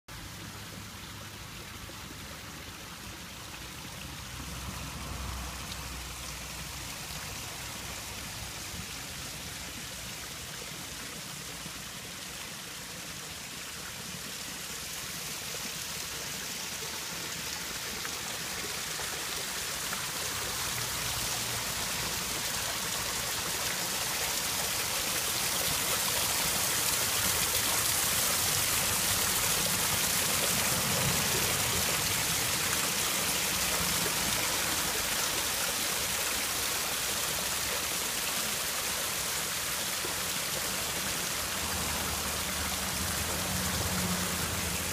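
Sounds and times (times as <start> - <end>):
water splashing over rocks: 1.4 - 44.9.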